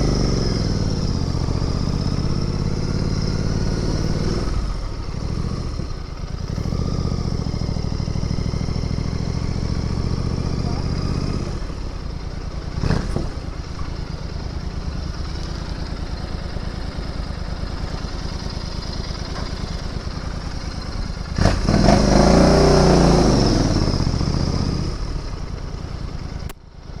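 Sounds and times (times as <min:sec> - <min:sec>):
motorcycle engine revving: 0:00.0 - 0:26.5.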